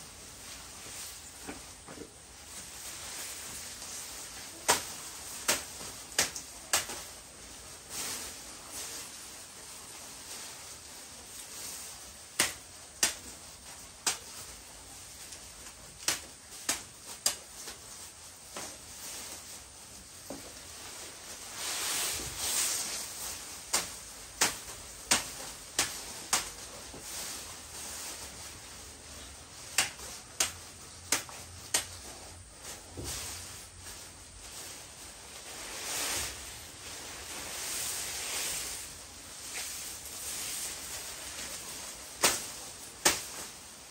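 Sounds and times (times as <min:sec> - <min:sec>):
rustling hiss: 0:00.0 - 0:43.9.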